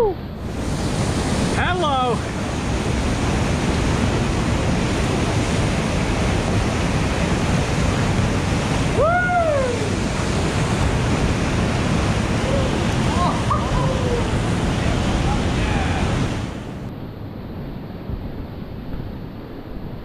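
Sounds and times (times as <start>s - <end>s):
whitewater rushing: 0.0s - 16.9s.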